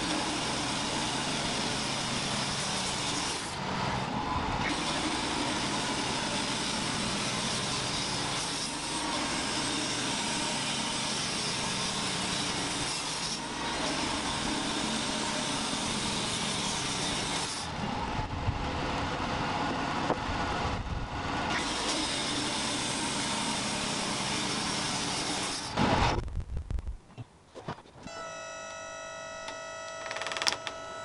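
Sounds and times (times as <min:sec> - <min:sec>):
band sawmill running: 0:00.0 - 0:26.1.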